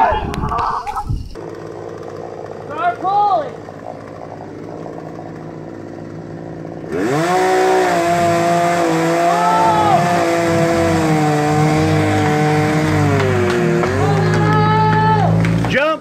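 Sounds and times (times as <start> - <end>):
chainsaw revving: 1.4 - 15.8.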